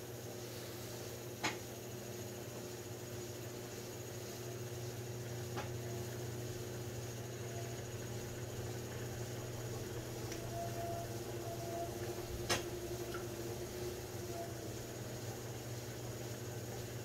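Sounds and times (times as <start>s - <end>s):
electric potter's wheel humming: 0.0s - 17.0s.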